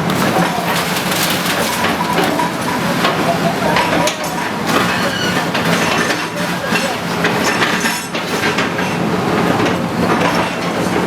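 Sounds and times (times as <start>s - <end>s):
clattering knocks and cracks: 0.0s - 11.0s
heavy engine running: 0.0s - 11.0s.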